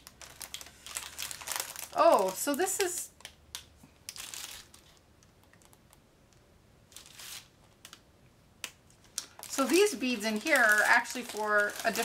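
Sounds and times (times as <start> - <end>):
plastic packaging crinkling: 0.0 - 5.8, 6.9 - 8.0, 8.9 - 12.0.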